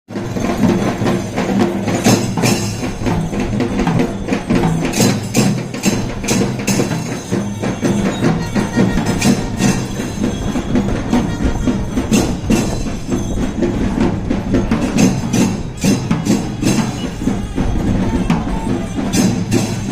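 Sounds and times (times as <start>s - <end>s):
sharp percussion strikes: 0.1s - 19.9s.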